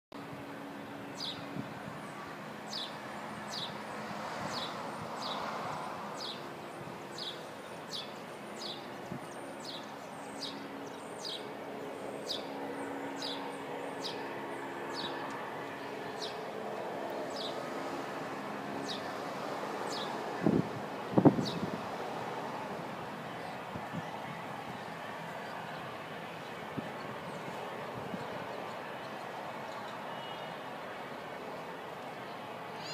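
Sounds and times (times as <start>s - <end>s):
distant city noise: 0.2s - 32.9s.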